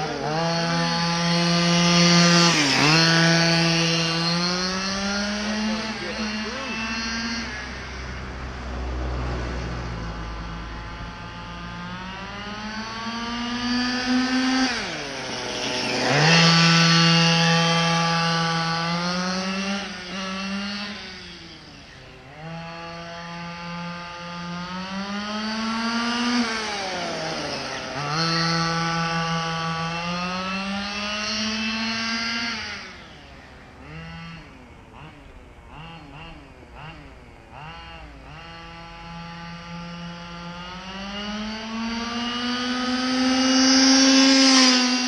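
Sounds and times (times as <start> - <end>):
small two-stroke engine revving: 0.0 - 45.0.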